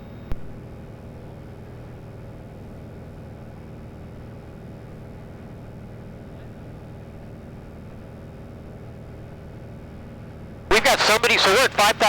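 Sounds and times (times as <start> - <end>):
aircraft engine and propeller drone: 0.5 - 12.0.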